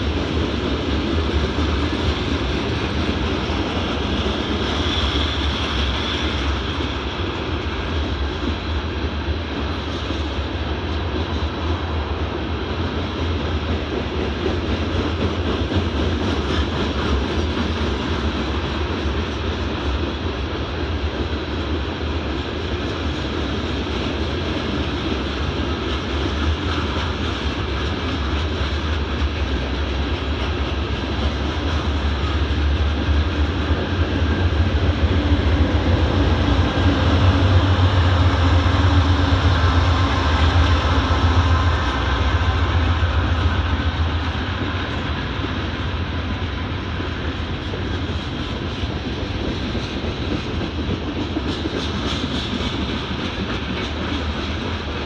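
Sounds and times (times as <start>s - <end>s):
diesel locomotive engine drone: 0.0s - 55.0s
freight cars rumbling on rails: 0.0s - 55.0s.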